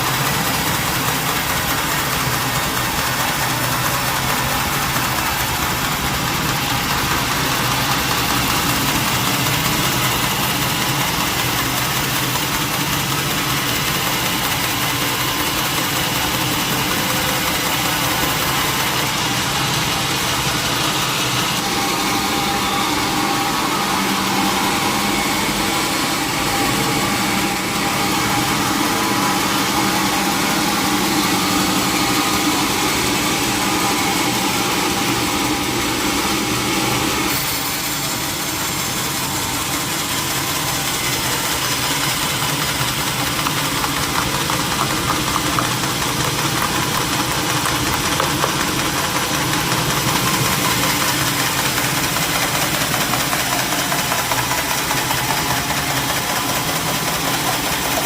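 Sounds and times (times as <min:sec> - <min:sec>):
sawmill saw running: 0:00.0 - 0:58.0.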